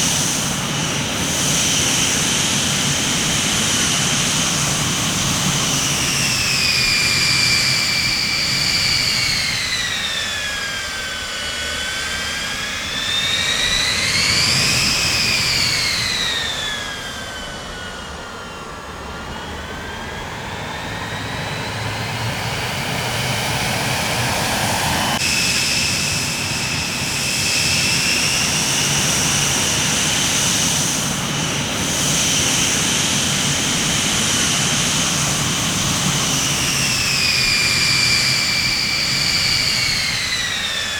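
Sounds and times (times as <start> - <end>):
jet engine turbine whine: 0.0 - 40.9.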